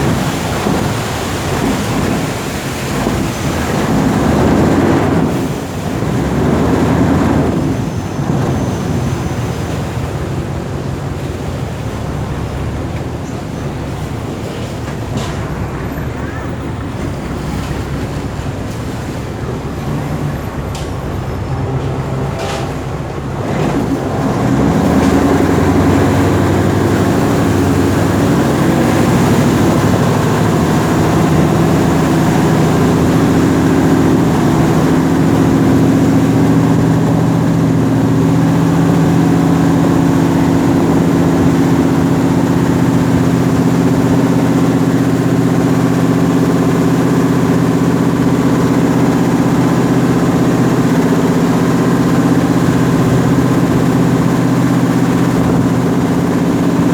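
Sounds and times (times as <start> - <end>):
boat diesel engine running: 0.0 - 56.9.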